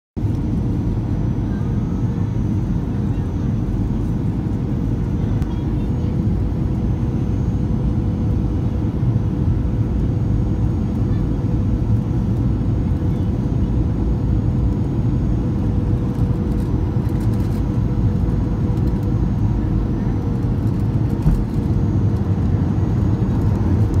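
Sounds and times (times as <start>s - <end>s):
airliner cabin drone: 0.2s - 24.0s.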